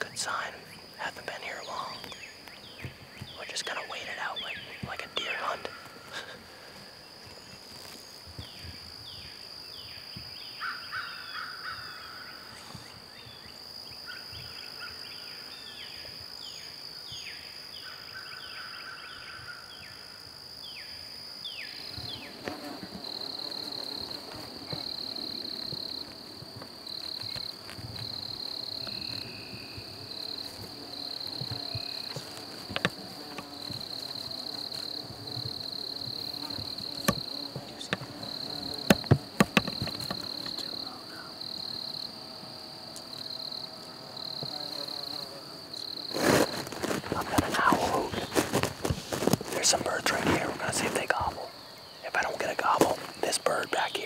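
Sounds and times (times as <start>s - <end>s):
high insect drone: 0.0s - 54.0s
insect trills: 0.0s - 54.0s.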